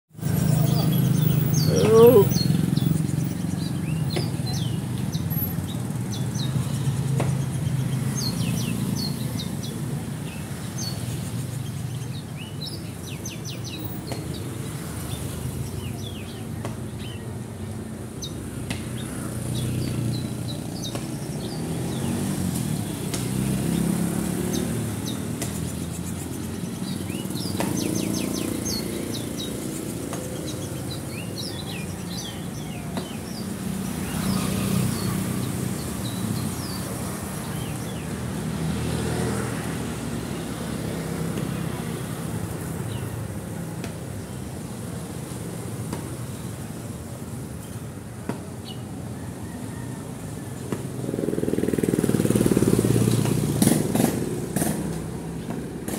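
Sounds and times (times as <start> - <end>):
motorcycles: 0.1 - 55.9
songbird singing: 0.1 - 55.9
street traffic rumble: 0.1 - 55.9.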